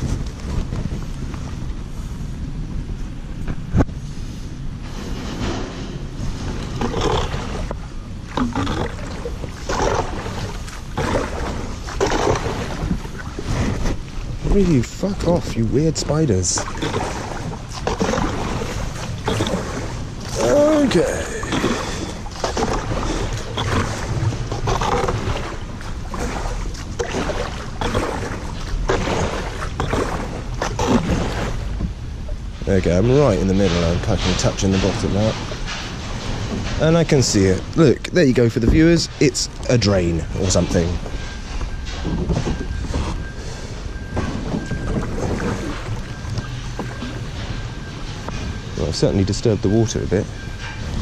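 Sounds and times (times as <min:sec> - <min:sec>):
microphone handling rumble: 0:00.0 - 0:51.0
paddle splashing in water: 0:04.8 - 0:39.0, 0:39.6 - 0:48.6.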